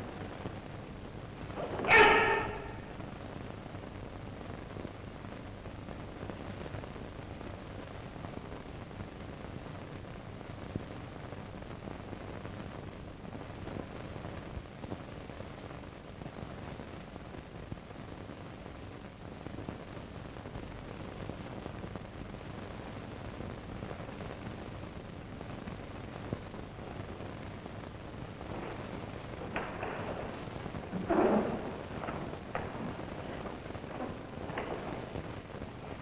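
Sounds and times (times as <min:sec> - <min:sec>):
low mains hum: 0:00.0 - 0:36.0
steady hiss: 0:00.0 - 0:36.0.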